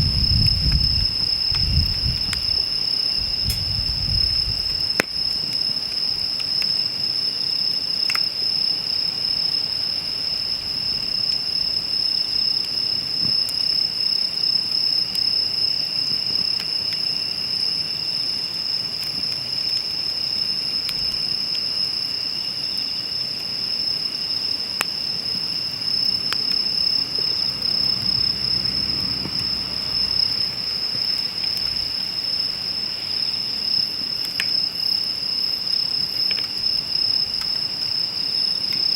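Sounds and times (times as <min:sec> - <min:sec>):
campfire popping and crackling: 0:00.0 - 0:38.9
insect chorus trilling: 0:00.0 - 0:38.9.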